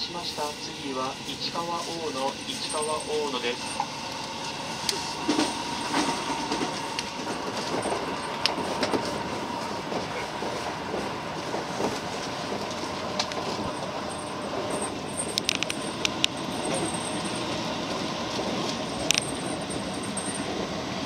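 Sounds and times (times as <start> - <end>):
train wheels on rail: 0.0 - 21.0.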